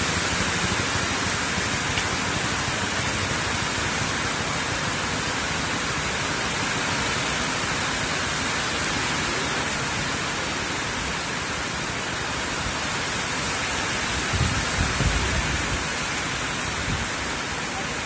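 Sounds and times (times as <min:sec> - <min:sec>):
rain on water and steel: 0:00.0 - 0:18.0.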